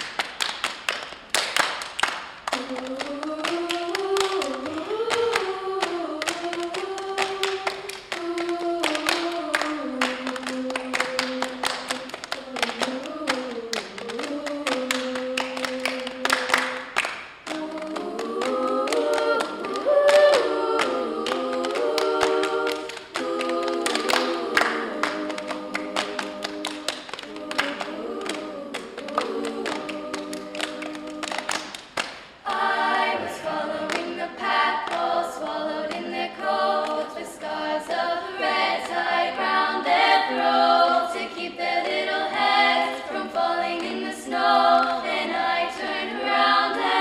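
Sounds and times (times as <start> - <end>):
hands clapping: 0.0 - 37.2, 43.1 - 44.1
girls' choir singing a cappella: 0.8 - 47.0.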